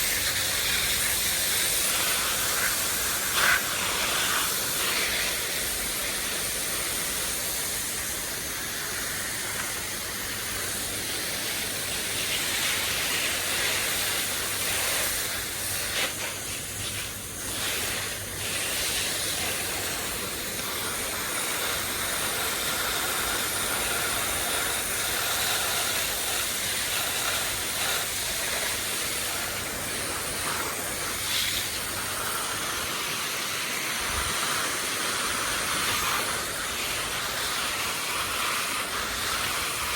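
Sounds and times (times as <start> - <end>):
garden hose spraying water: 0.0 - 39.9.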